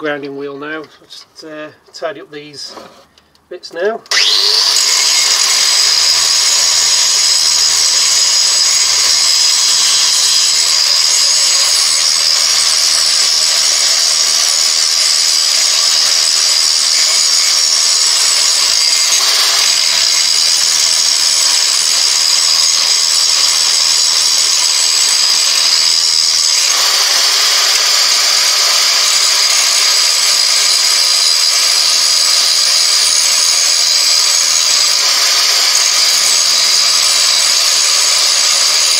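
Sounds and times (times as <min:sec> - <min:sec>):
angle grinder grinding steel: 0:04.1 - 0:38.9.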